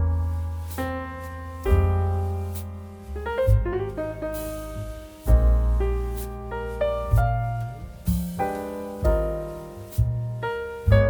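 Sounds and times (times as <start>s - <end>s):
piano background music: 0.0s - 11.0s.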